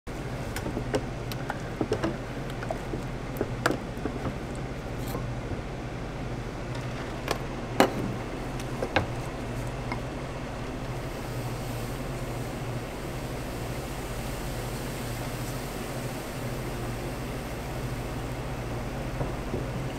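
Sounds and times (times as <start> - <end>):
low hum of kitchen equipment: 0.1 - 19.9.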